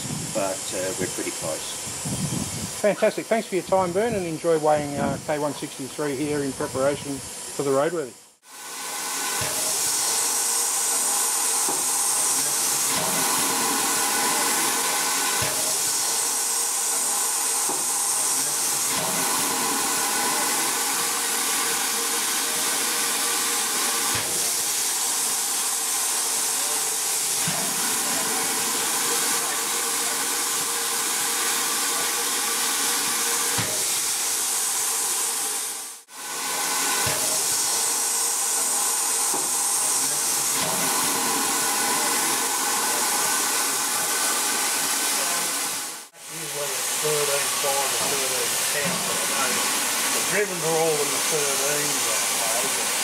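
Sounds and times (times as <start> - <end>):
loud steam hiss: 0.0 - 53.0.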